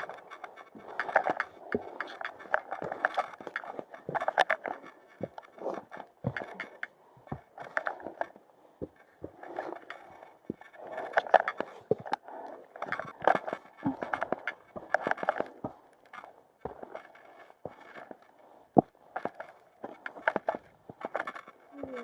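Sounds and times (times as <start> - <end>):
footsteps: 0.0 - 22.0.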